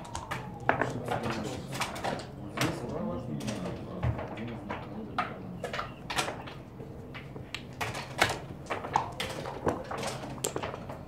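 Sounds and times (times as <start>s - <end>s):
checkers clacking on a board: 0.0s - 11.0s.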